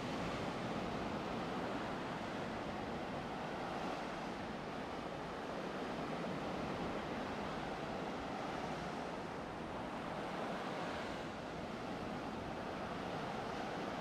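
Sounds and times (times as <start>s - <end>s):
ocean surf on beach: 0.0s - 14.0s.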